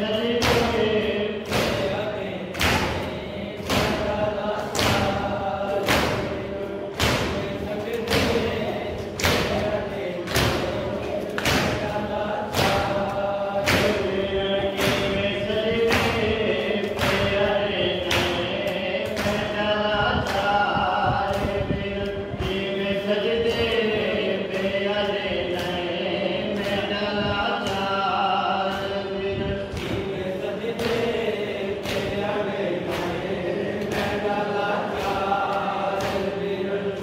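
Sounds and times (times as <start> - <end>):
group chanting in unison: 0.0 - 37.0.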